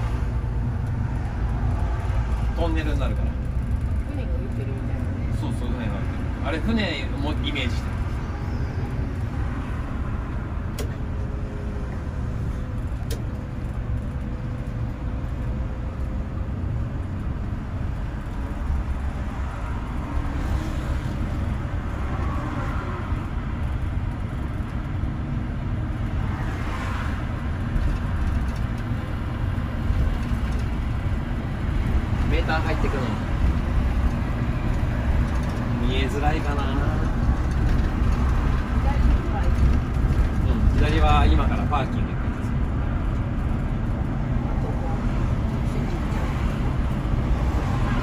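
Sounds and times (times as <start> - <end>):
bus engine rumble: 0.0 - 48.0.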